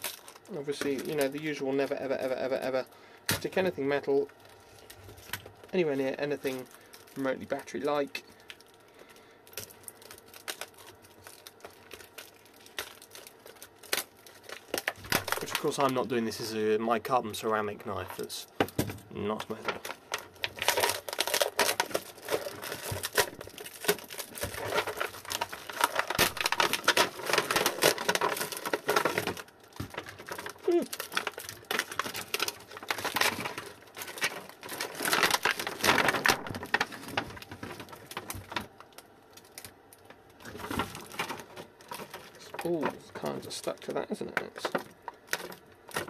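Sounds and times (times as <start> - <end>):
plastic wrapping crackling: 0.0 - 46.0.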